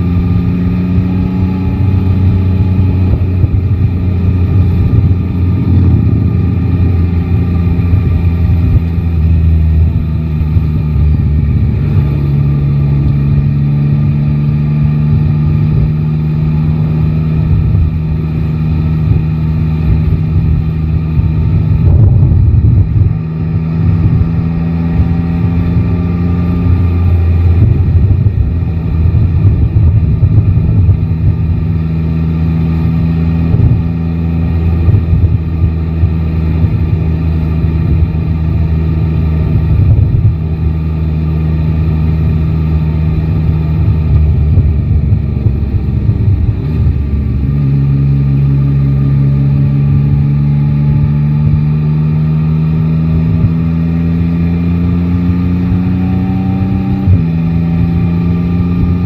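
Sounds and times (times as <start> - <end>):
motorcycle engine running: 0.0 - 59.0
wind rushing over the microphone: 0.0 - 59.0.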